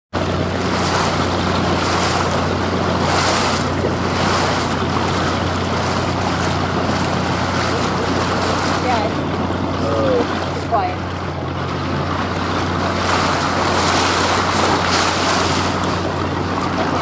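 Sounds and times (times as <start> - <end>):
boat engine idling: 0.1 - 17.0
water washing around hull: 0.1 - 17.0.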